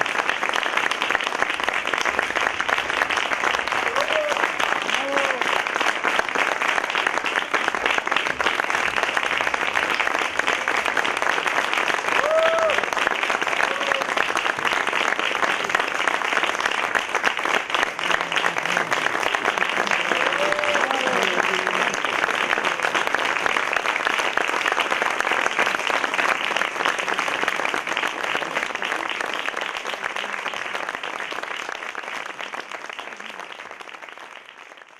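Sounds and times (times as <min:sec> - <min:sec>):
audience applauding: 0:00.0 - 0:34.9.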